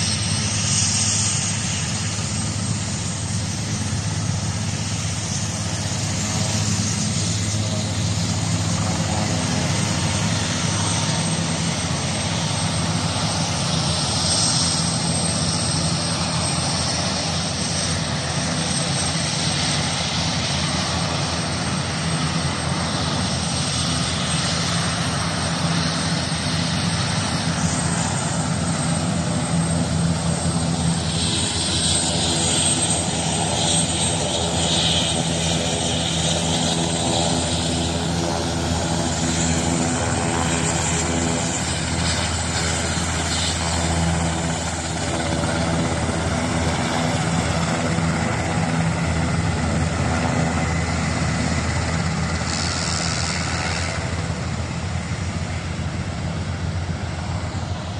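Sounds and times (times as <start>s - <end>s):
helicopter turbine and rotor: 0.0s - 57.9s.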